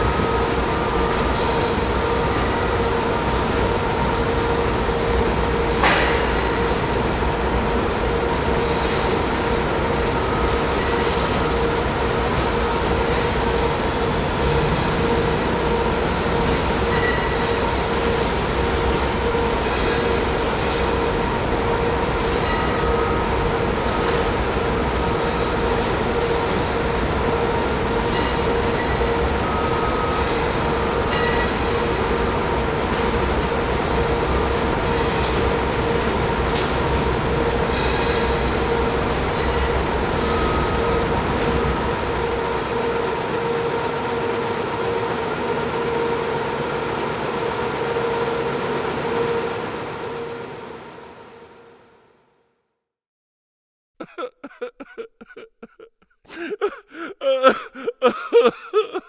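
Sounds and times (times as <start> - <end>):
factory machinery running: 0.0 - 51.0.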